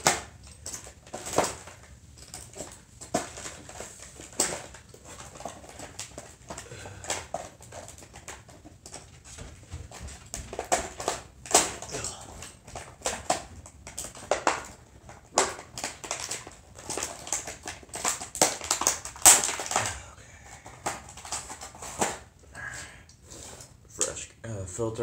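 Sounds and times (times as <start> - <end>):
plastic packaging crinkling: 0.0 - 9.5, 10.2 - 22.3.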